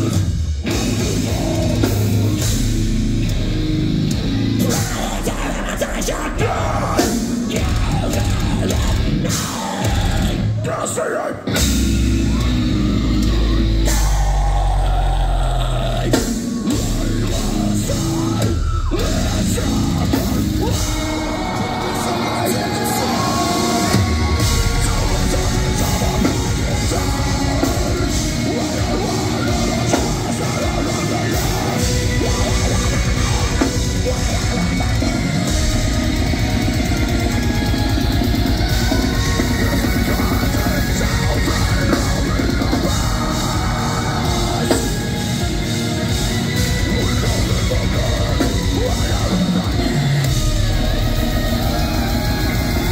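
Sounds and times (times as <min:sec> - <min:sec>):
harsh screamed vocals: 0:00.0 - 0:02.6, 0:04.1 - 0:52.9
fast dense drumming: 0:00.0 - 0:10.7, 0:11.5 - 0:52.9
heavy distorted guitars: 0:00.0 - 0:52.9.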